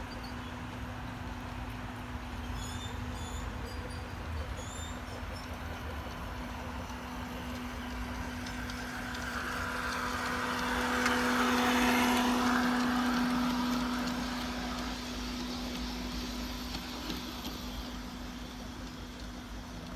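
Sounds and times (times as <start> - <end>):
model train diesel engine hum: 0.0 - 19.9
wheels rolling on rails: 0.0 - 19.9.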